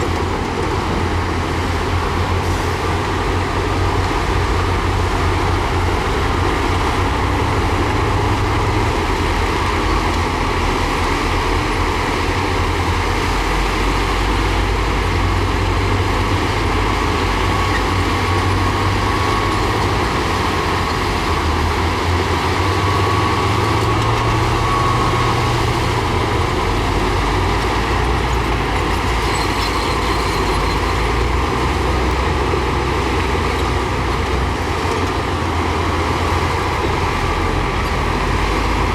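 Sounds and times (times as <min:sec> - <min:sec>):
heavy diesel machinery rumbling: 0:00.0 - 0:38.9.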